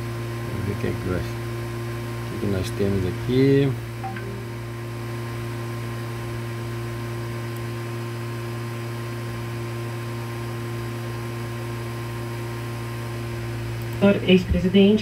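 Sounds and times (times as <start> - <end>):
electrical mains hum with hiss: 0.0 - 15.0.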